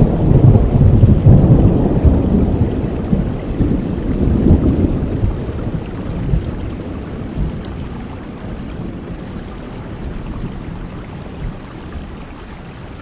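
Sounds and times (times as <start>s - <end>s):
low rumble of thunder: 0.0s - 13.0s
steady rain: 0.0s - 13.0s.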